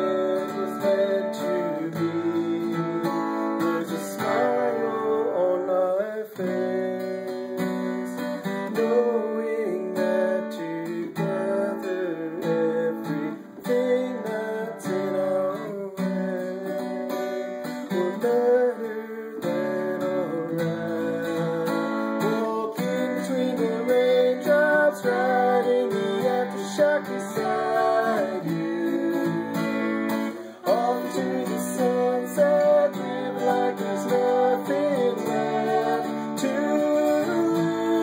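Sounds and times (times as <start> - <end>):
acoustic guitar strumming: 0.0 - 38.0
person singing: 0.0 - 38.0.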